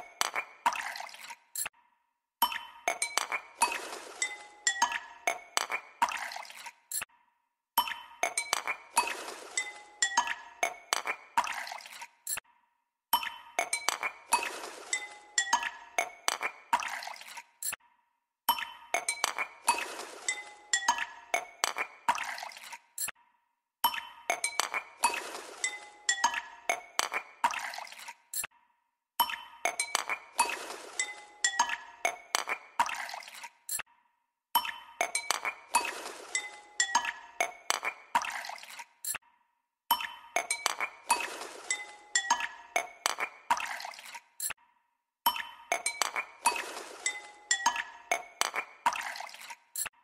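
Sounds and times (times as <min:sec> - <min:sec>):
glassy clinking music: 0:02.4 - 0:07.0, 0:07.8 - 0:12.4, 0:13.2 - 0:17.8, 0:18.5 - 0:23.1, 0:23.9 - 0:27.8, 0:29.2 - 0:33.8, 0:34.6 - 0:39.2, 0:39.9 - 0:44.6, 0:45.3 - 0:49.9.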